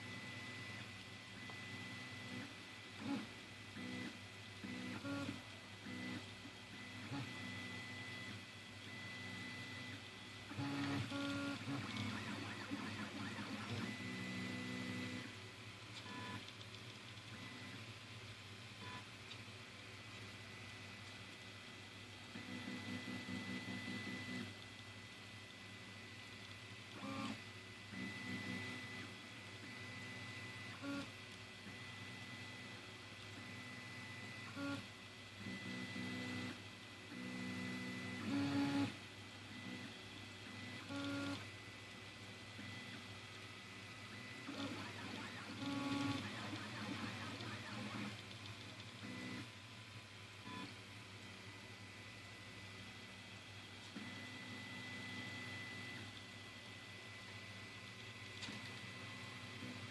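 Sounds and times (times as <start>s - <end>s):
printer stepper motors: 0.0s - 19.5s, 22.3s - 49.6s, 50.4s - 53.2s, 53.8s - 59.9s
steady hum: 0.0s - 59.9s.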